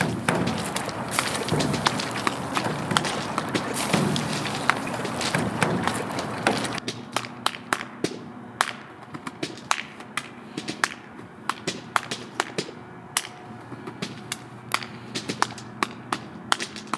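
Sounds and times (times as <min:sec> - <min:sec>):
body percussion slaps and claps: 0:00.0 - 0:13.4, 0:14.0 - 0:16.9.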